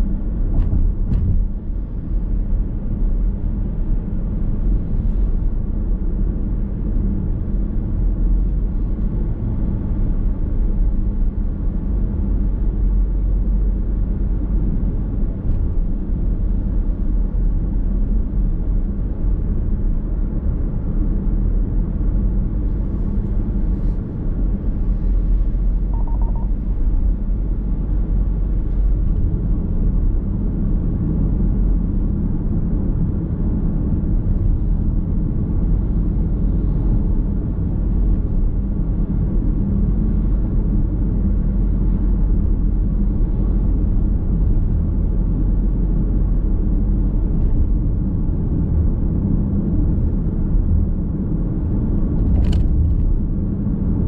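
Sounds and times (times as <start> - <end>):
road and tyre noise in car: 0.0 - 54.0.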